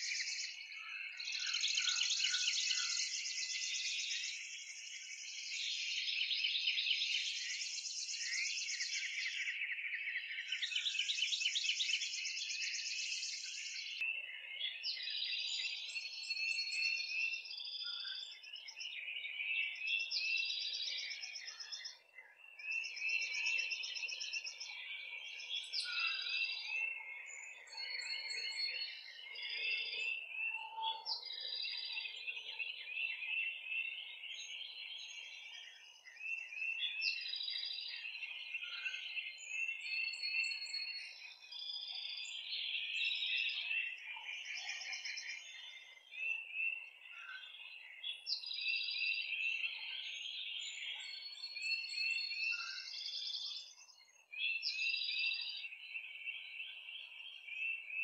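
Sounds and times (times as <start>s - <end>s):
songbirds chorus: 0.0s - 58.0s.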